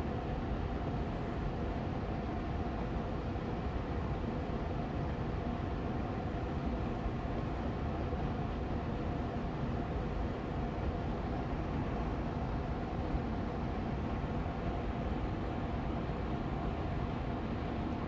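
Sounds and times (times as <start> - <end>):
air purifier fan whooshing hum: 0.0 - 18.0.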